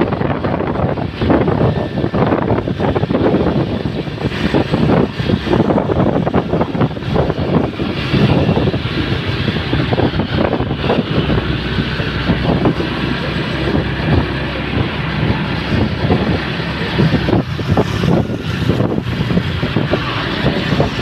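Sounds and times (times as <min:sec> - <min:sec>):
road traffic: 0:00.0 - 0:21.0
wind buffeting microphone: 0:00.0 - 0:21.0.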